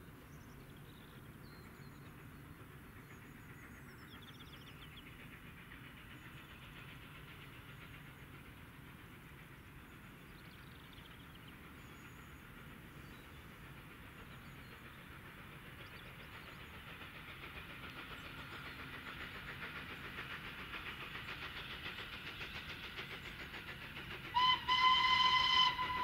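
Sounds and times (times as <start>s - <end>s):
distant steam locomotive rumble: 0.0s - 26.0s.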